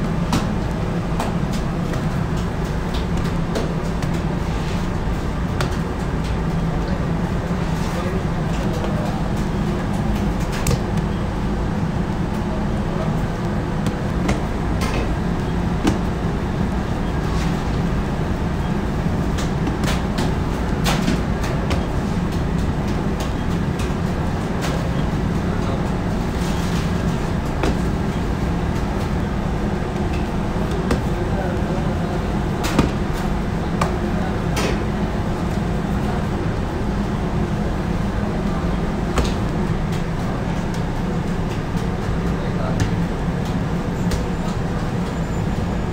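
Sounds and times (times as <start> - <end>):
bakery machinery hum: 0.0 - 45.9.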